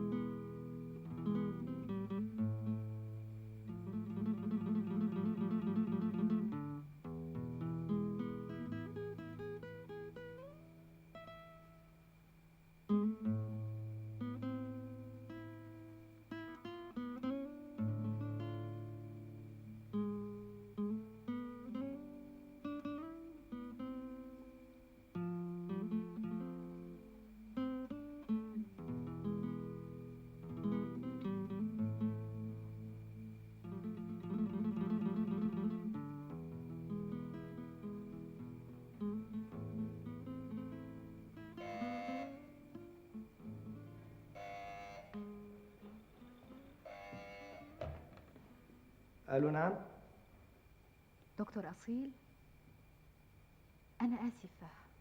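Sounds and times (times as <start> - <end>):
acoustic guitar music: 0.0 - 49.8.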